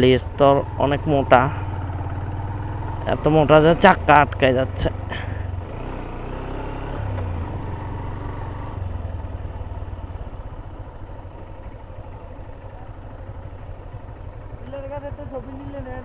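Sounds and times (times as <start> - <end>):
motorcycle engine under load: 0.0 - 16.0.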